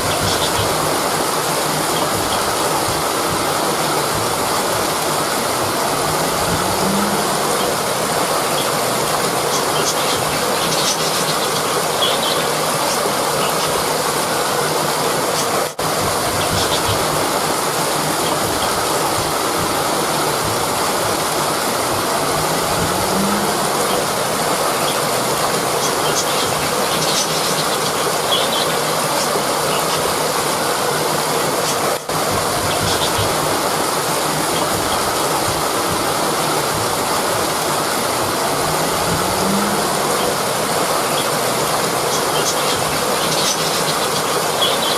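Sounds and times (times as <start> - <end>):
rushing river water: 0.0 - 44.9.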